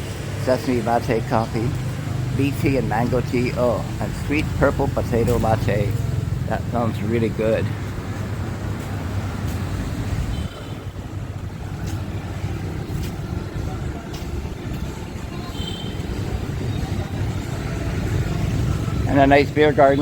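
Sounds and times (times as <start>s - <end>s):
passing vehicles rumbling: 0.0s - 20.0s.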